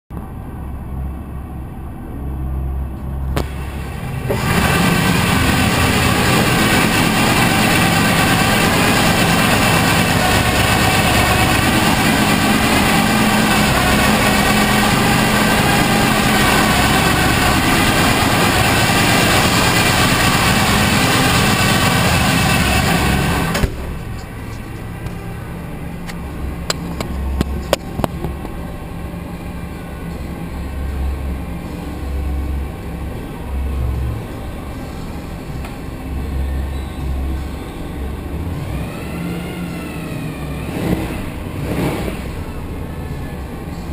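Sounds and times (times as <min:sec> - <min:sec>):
engine idling and revving: 0:00.1 - 0:43.9.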